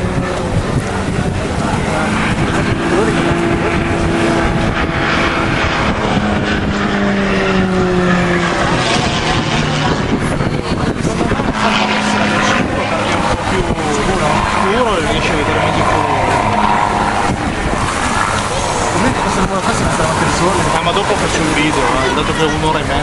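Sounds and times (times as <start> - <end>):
aircraft engine drone passing: 0.0 - 23.0.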